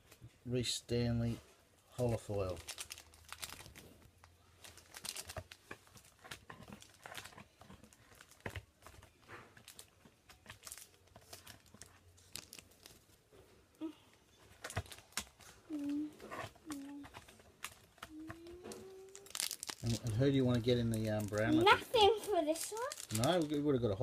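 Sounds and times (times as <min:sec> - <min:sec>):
card wrappers crinkling and tearing: 0:02.0 - 0:13.3, 0:14.4 - 0:24.0.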